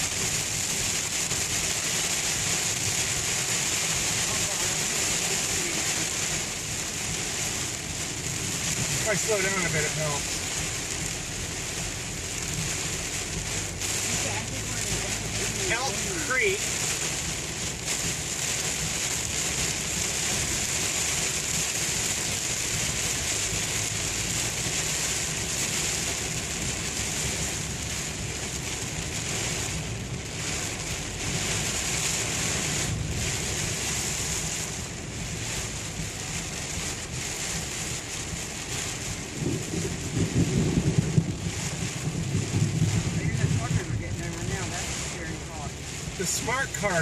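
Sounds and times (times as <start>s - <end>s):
heavy rain on car roof: 0.0s - 47.0s
uneven low rumble: 0.0s - 47.0s.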